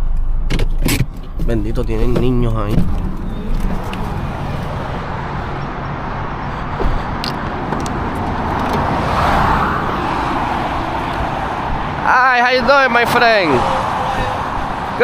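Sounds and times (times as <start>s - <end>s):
road traffic noise: 0.0s - 15.0s
car passing by: 3.0s - 15.0s.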